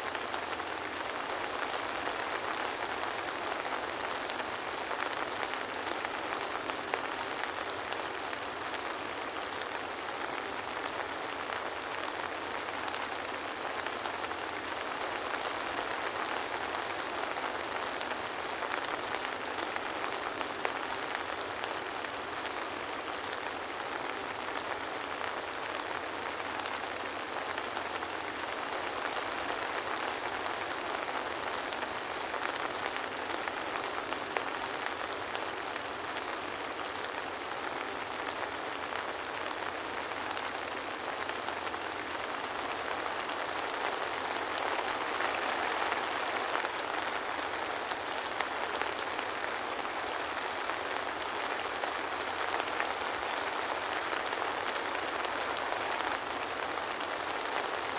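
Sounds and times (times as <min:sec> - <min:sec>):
soft rain pattering: 0:00.0 - 0:57.9.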